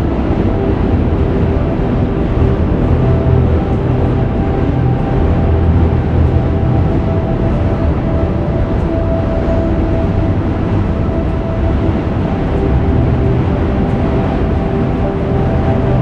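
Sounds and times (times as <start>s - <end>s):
dark ambient drone music: 0.0s - 16.0s.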